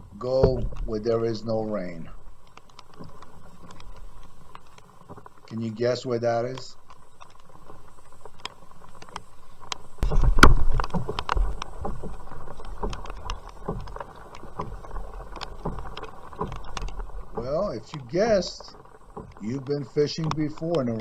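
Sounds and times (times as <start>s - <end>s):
kayak hull knocking: 0.0s - 21.0s
raindrops tapping: 0.0s - 21.0s
water hissing: 0.0s - 21.0s.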